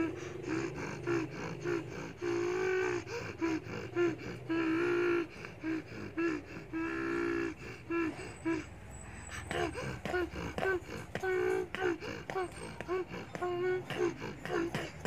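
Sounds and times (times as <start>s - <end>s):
child beatboxing: 0.0s - 8.6s, 9.5s - 15.0s.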